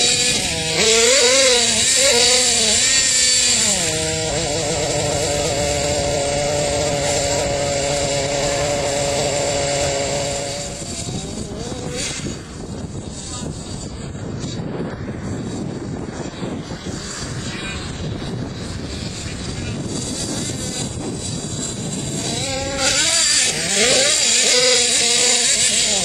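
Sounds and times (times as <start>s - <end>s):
small combustion engine revving: 0.0s - 26.0s.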